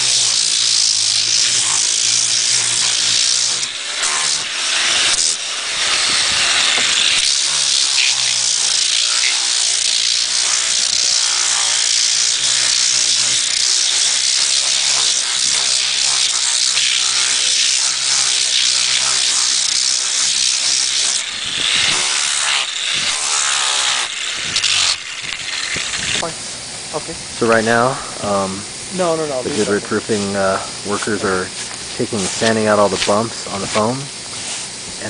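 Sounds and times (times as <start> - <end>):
power grinder hissing grind: 0.0 - 35.0.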